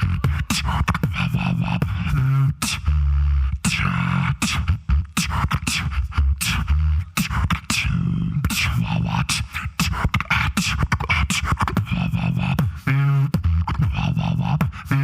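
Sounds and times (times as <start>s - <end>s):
beatboxing: 0.0s - 15.0s.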